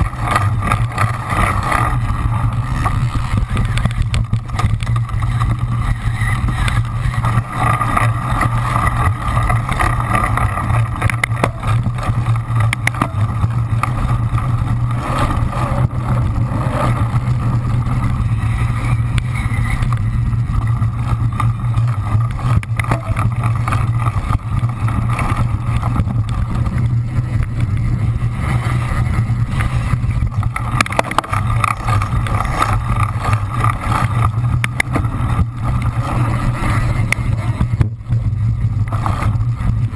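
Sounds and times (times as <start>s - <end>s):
bike knocks and rattles: 0.0s - 39.9s
bike tyres on dirt: 0.0s - 39.9s
wind on microphone: 0.0s - 39.9s.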